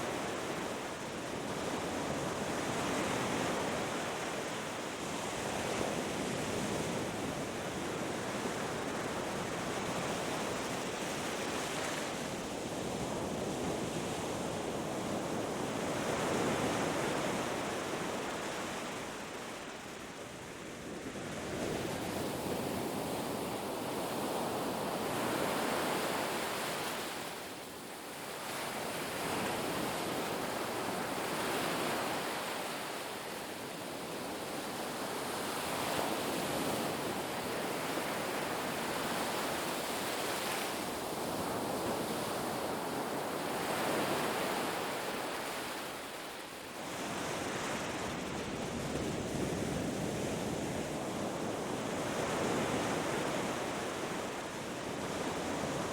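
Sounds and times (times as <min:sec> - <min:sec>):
waves breaking on a beach: 0:00.0 - 0:55.9.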